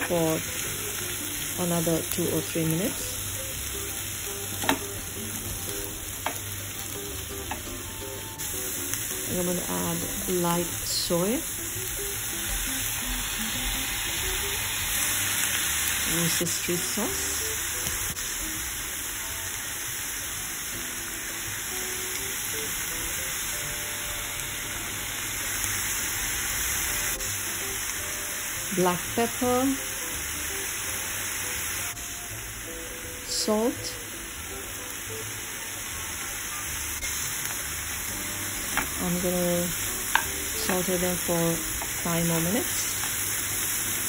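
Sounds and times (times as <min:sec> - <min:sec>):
vegetables sizzling in oil: 0:00.0 - 0:44.0.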